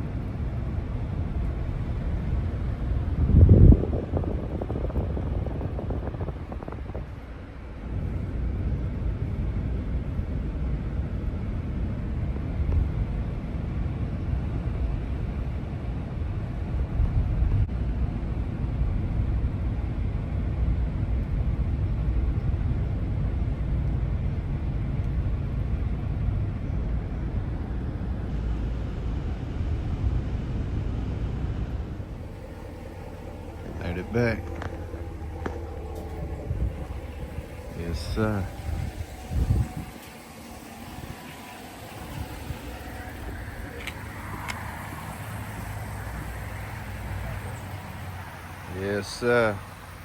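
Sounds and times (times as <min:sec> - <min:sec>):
road and engine noise in a cab: 0:00.0 - 0:50.0.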